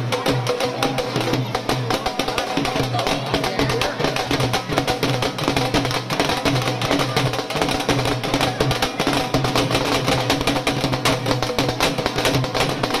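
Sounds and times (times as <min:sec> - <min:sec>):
bowl-shaped drum beaten with sticks: 0:00.0 - 0:13.0
dhol drumming: 0:00.0 - 0:13.0.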